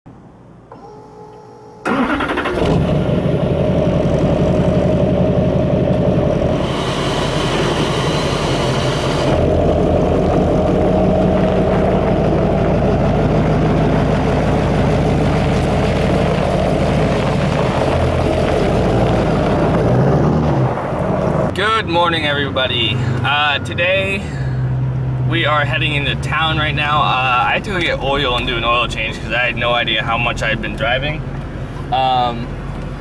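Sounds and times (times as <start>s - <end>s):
diesel pickup engine running: 1.9s - 33.0s.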